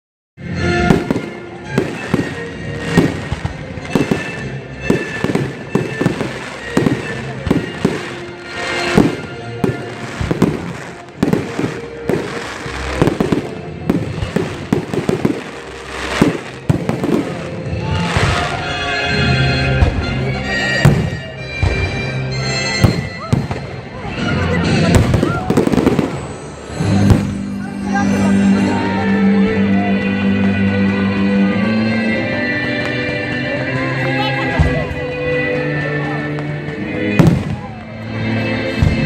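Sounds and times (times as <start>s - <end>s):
fireworks banging and crackling: 0.4s - 28.7s, 32.8s - 39.0s
music playing: 0.4s - 39.0s.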